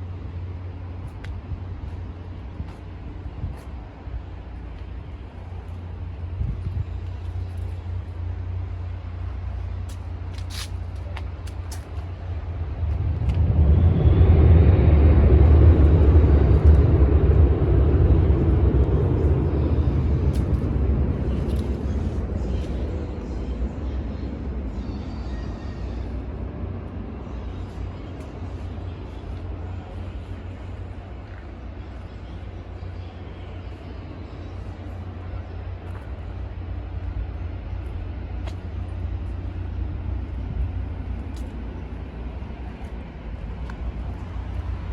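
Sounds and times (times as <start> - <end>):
vehicle rumble: 0.0 - 44.9.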